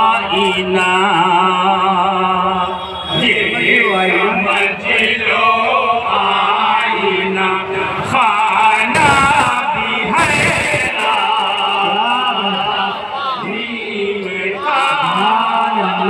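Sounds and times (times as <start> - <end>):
men chanting together: 3.1 - 16.0.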